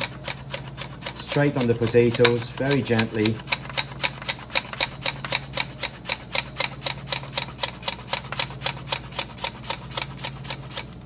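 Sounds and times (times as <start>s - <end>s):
potato slicing on mandoline: 0.0s - 11.0s.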